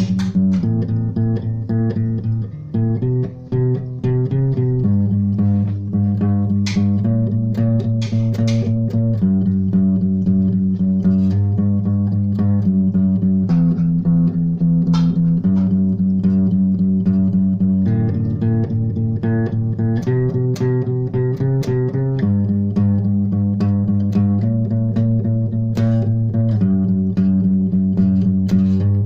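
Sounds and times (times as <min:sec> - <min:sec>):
bass: 0:00.0 - 0:29.0
plucked guitar: 0:00.0 - 0:29.0.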